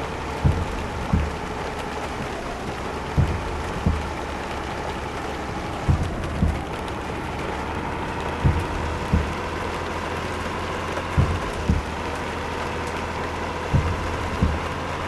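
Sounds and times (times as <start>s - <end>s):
short low thumps: 0.0s - 15.0s
truck road and engine noise: 0.0s - 15.0s.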